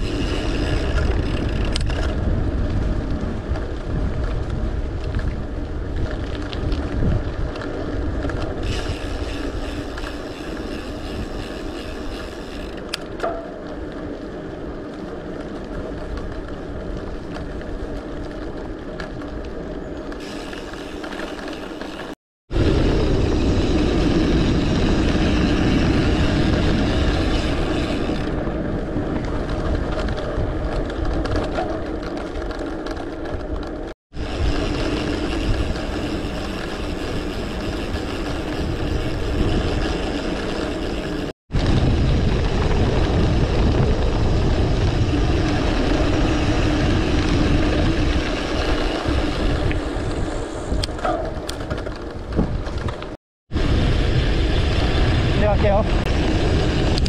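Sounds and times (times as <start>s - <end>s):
wind rushing over microphone: 0.0s - 12.8s, 22.0s - 57.0s
tyres rolling on pavement: 0.0s - 55.4s.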